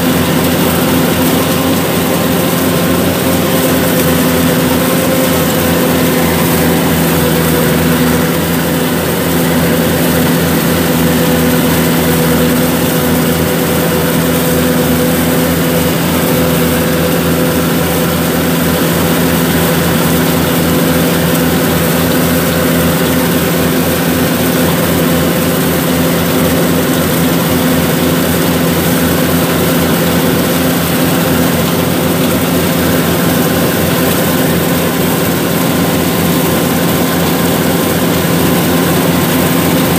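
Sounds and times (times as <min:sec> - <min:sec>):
combine harvester engine hum: 0:00.0 - 0:39.9
mechanical rush of harvester: 0:00.0 - 0:39.9.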